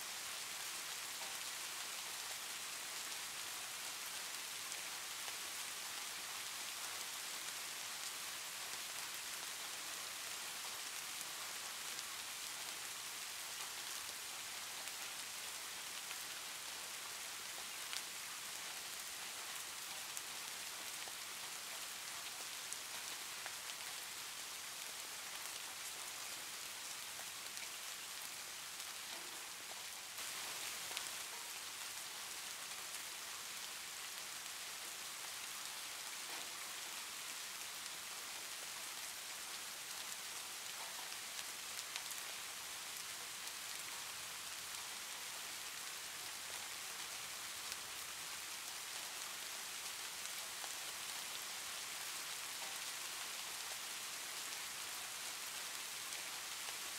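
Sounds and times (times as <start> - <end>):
light rain hiss: 0.0 - 56.9.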